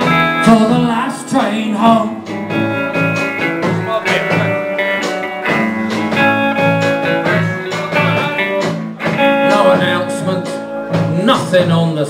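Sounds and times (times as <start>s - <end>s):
person singing: 0.0s - 5.6s, 6.2s - 11.4s
strummed guitar music: 0.0s - 12.0s.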